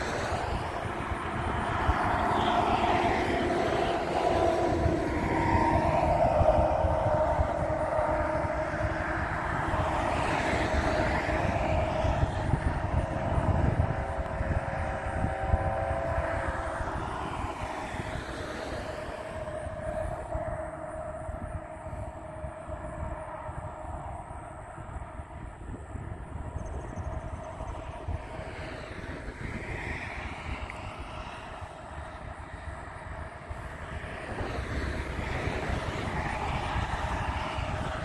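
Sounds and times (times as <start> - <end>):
engine drone with low rumble: 0.0 - 38.0.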